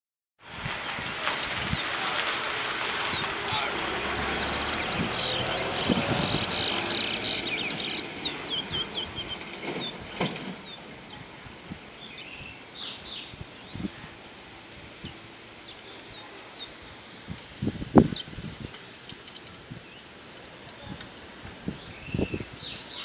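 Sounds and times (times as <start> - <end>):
steady background noise: 0.5 - 23.0
songbird chirping: 0.9 - 23.0.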